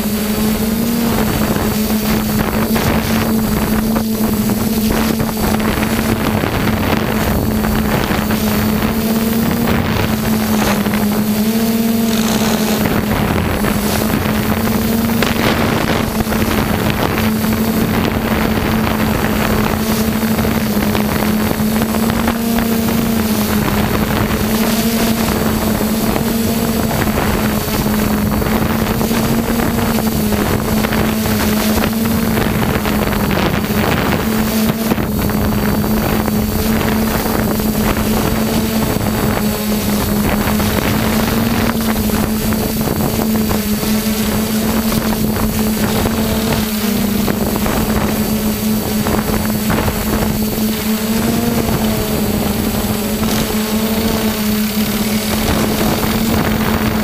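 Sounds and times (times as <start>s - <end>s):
drone propellers buzzing: 0.0s - 57.0s
wind on microphone: 0.0s - 57.0s.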